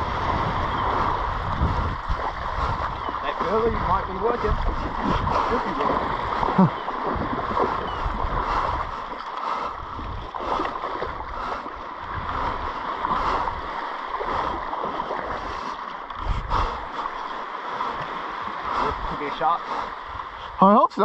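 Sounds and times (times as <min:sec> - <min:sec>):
seawater sloshing around legs: 0:00.0 - 0:20.4
wind on microphone: 0:00.0 - 0:20.6.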